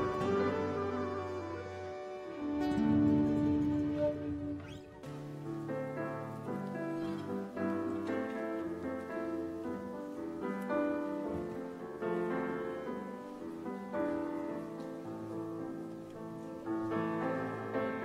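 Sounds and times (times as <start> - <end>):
instrumental keyboard music: 0.0 - 18.0.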